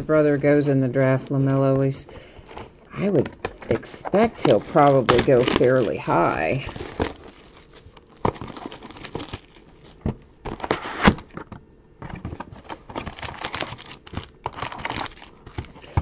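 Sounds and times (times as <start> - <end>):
card wrappers crinkling: 0.0 - 11.4, 12.3 - 16.0.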